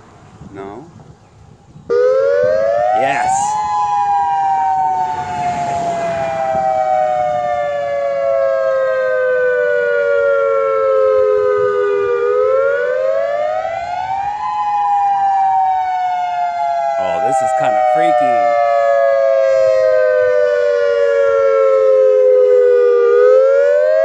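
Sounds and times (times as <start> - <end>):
warning siren wailing: 1.9 - 24.0.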